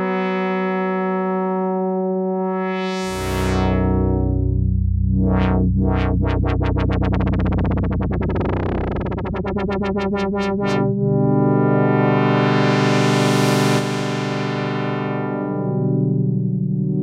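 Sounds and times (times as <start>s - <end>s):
synthesizer chord: 2.7s - 17.0s
deep synth bass note: 3.0s - 17.0s.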